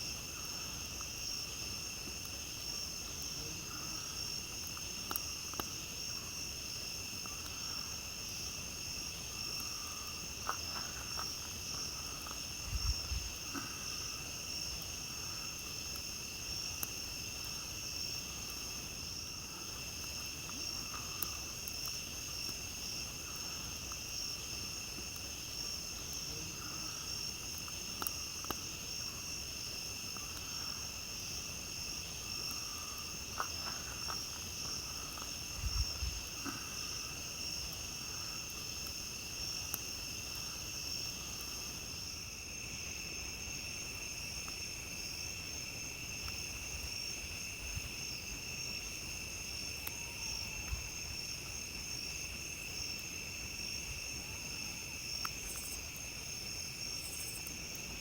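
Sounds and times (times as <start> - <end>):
campfire pops and crackles: 0.0 - 58.0
crickets trilling: 0.0 - 58.0.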